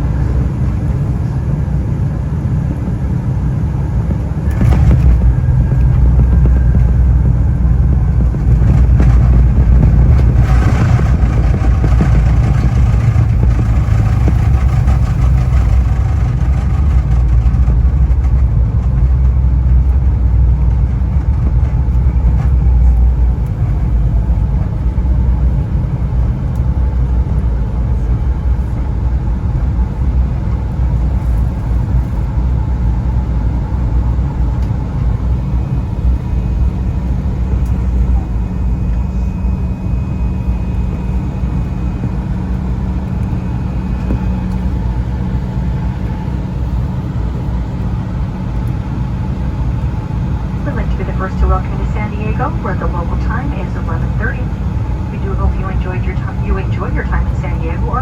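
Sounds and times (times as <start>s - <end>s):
jet engines and airflow rumble: 0.0s - 58.0s
faint whine tones: 4.1s - 58.0s.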